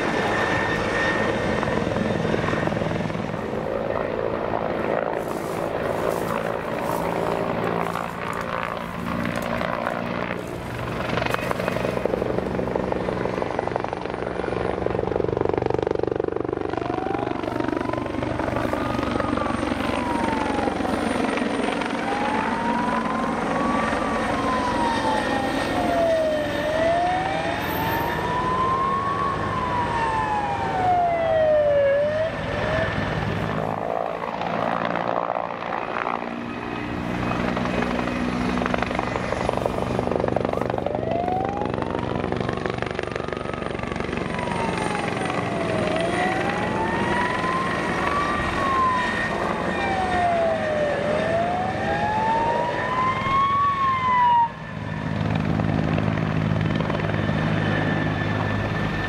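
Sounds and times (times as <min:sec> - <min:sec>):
helicopter flying overhead: 0:00.0 - 0:59.0.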